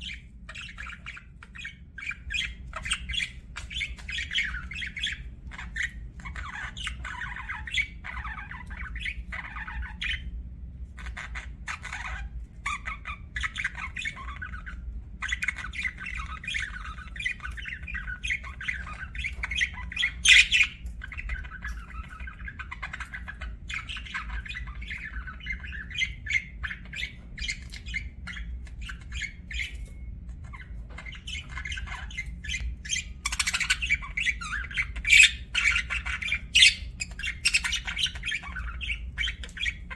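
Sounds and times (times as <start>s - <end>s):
budgerigars chattering: 0.0s - 39.9s
steady low hum: 0.0s - 39.9s.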